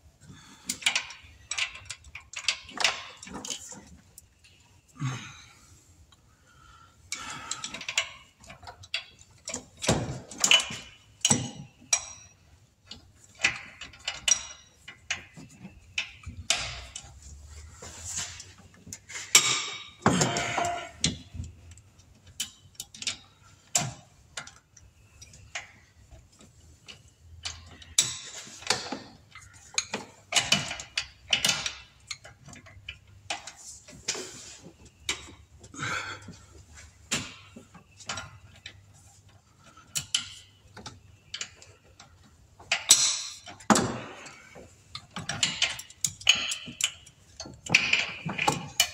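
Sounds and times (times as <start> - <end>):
metal tools clinking: 7.1 - 48.9.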